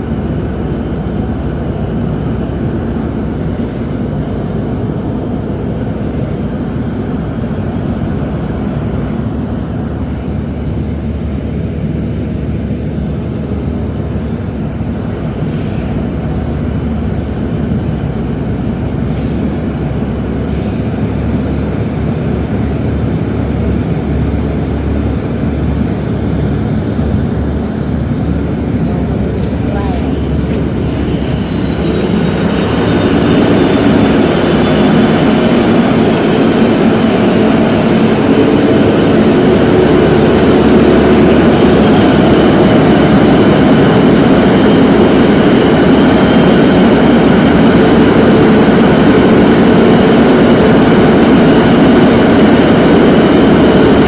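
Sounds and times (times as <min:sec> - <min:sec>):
ship engine droning: 0:00.0 - 0:54.0.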